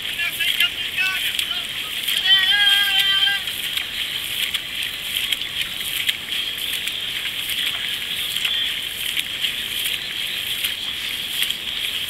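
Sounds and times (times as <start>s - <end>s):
canoe paddles splashing: 0.0s - 12.0s
sharp splashes and knocks: 0.0s - 12.0s
water rushing along hull: 0.0s - 12.0s.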